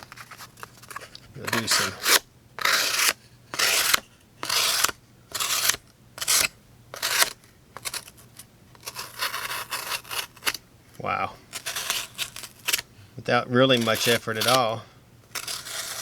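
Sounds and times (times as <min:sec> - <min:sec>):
knife slicing cardboard: 0:00.0 - 0:08.2, 0:08.8 - 0:10.6, 0:11.5 - 0:12.8, 0:13.7 - 0:14.7, 0:15.3 - 0:16.0.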